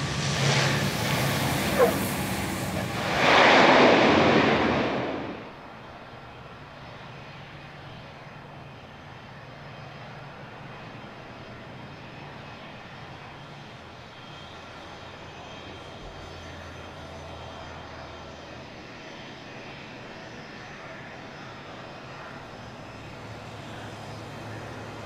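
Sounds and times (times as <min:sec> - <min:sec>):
airplane engine rush: 0:00.0 - 0:25.0
steady engine hum: 0:00.0 - 0:25.0.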